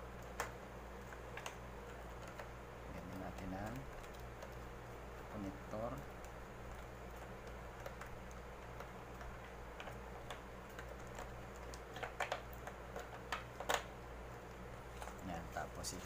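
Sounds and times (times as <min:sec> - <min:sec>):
steady low hum: 0:00.0 - 0:16.0
clicks and taps on electrical wires: 0:00.2 - 0:15.3.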